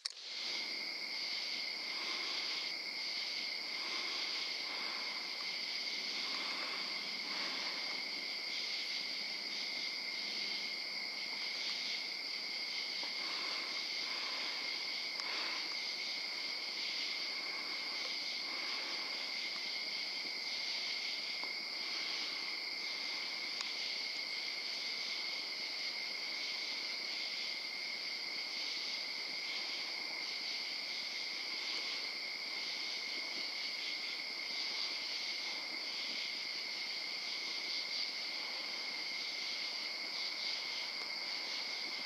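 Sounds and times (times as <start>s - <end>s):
crickets and insects trilling: 0.0s - 42.0s.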